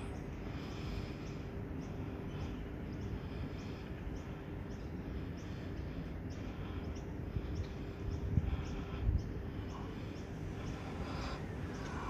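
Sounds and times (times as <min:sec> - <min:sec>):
low rumble and hum: 0:00.0 - 0:12.0
small birds chirping: 0:00.0 - 0:12.0.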